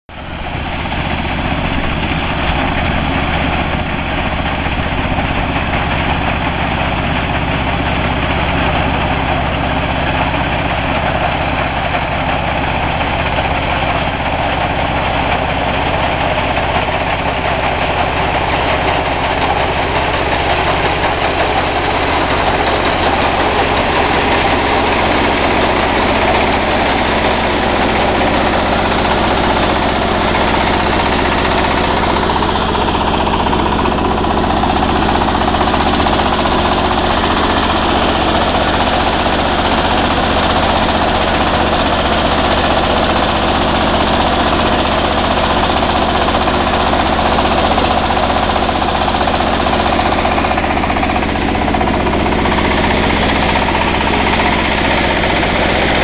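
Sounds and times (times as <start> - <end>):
diesel engine running: 0.1 - 56.0.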